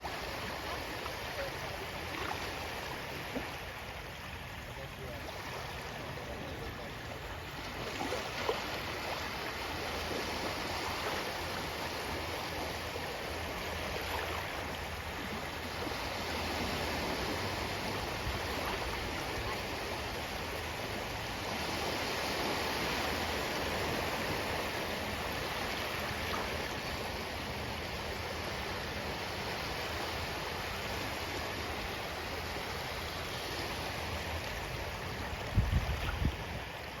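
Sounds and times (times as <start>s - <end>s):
ocean waves washing: 0.0s - 37.0s.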